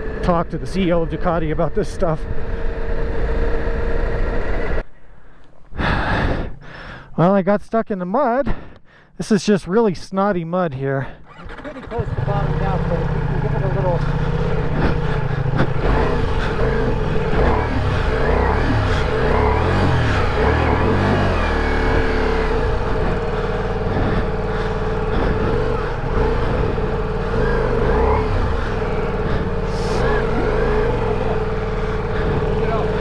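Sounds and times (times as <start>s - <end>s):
motorcycle engine revving: 0.0s - 4.9s, 11.2s - 33.0s.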